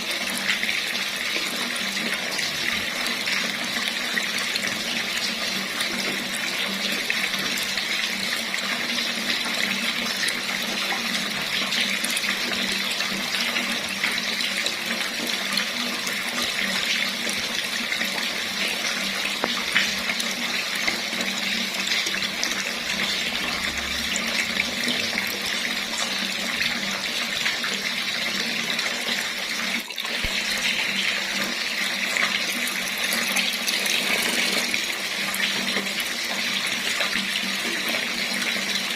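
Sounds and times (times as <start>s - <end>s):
water running from tap: 0.0s - 38.9s.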